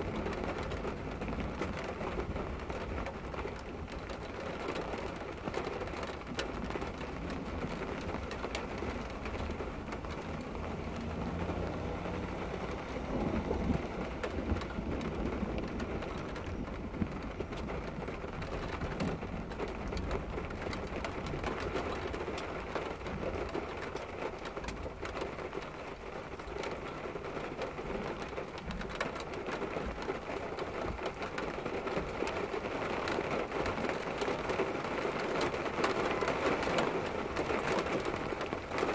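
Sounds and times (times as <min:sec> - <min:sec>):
heavy rain: 0:00.0 - 0:38.9
raindrops ticking on window glass: 0:00.0 - 0:38.9.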